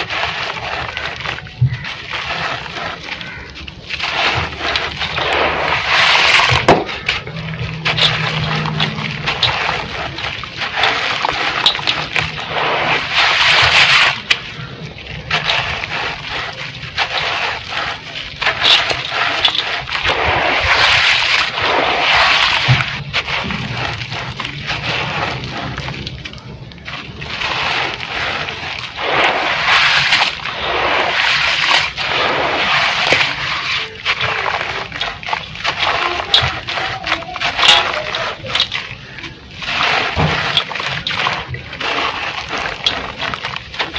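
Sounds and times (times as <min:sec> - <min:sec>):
dirt crumbling into water: 0:00.0 - 0:43.9.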